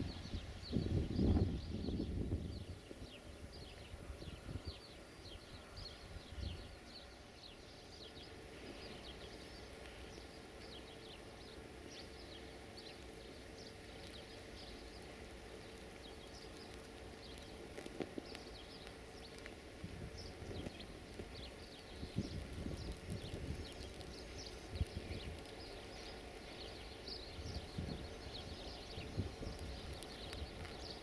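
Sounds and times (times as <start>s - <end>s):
birds chirping: 0.0s - 31.0s
faint steady hum: 0.0s - 31.0s.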